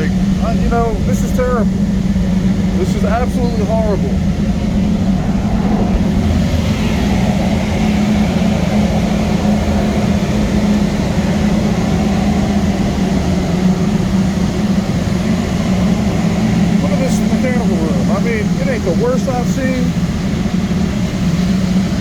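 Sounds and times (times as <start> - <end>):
blower low hum: 0.0 - 22.0
boiler burner roaring: 0.0 - 22.0.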